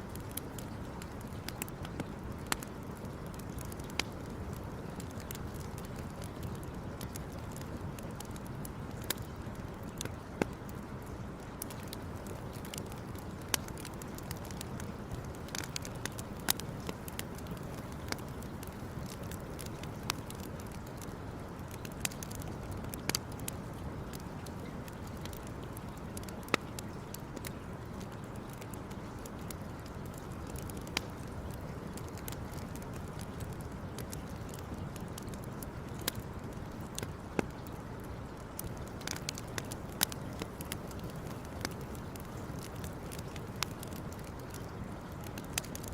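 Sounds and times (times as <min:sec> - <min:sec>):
campfire crackling: 0:00.0 - 0:45.9
fire pops and snaps: 0:00.0 - 0:45.9.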